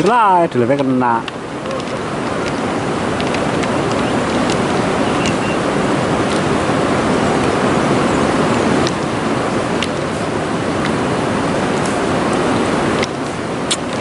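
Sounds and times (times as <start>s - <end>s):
river running over rocks: 0.0s - 14.0s.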